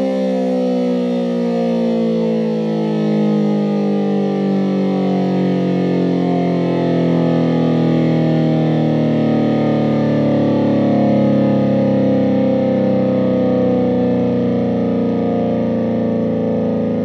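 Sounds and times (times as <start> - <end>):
dual-tone warning siren: 0.0 - 17.0.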